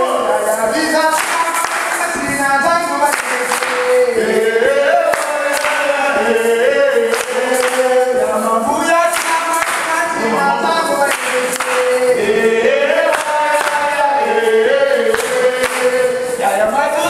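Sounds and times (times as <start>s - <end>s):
group singing a chant: 0.0s - 17.0s
hand claps: 0.0s - 17.0s.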